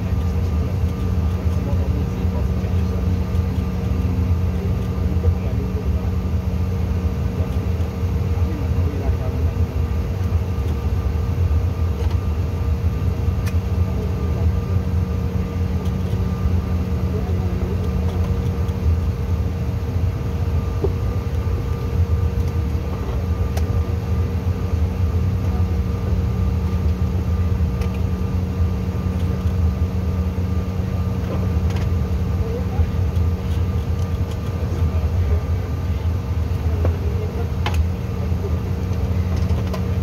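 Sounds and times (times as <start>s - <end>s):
jet cabin low rumble: 0.0s - 40.0s
jet engine hum and whine: 0.0s - 40.0s.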